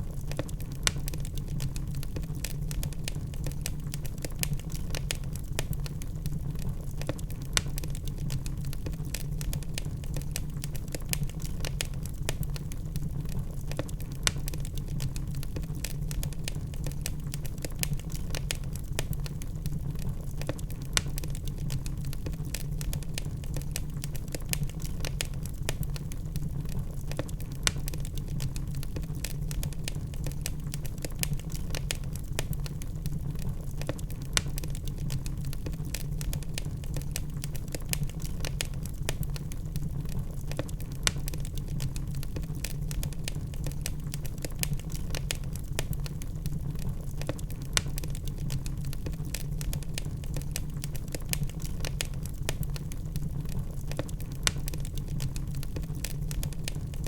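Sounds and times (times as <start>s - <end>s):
fire low rumble: 0.0s - 57.0s
logs crackling and popping: 0.0s - 57.0s.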